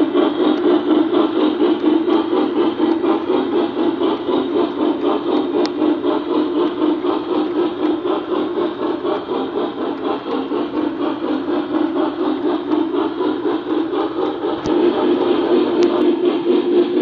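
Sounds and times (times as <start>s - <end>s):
model train wheels clattering on rails: 0.0s - 17.0s.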